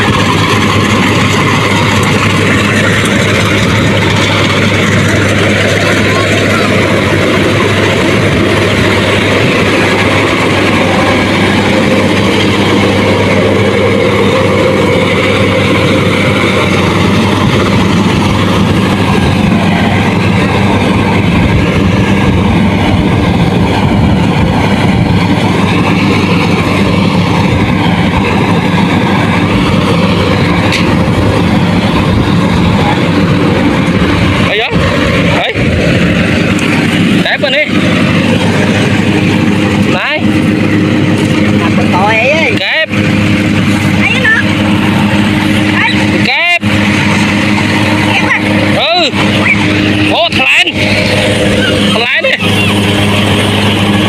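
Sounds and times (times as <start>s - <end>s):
harvester engine drone: 0.0s - 54.0s.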